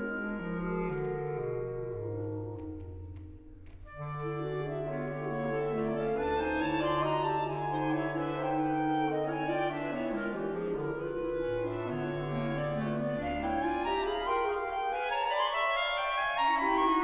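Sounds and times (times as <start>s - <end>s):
bass clarinet: 0.0s - 2.8s, 3.8s - 17.0s.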